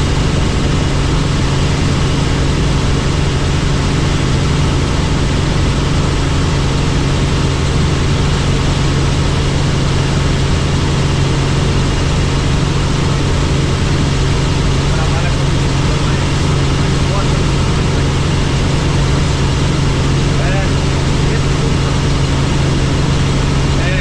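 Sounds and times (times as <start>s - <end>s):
helicopter engine and rotor drone: 0.0s - 24.0s.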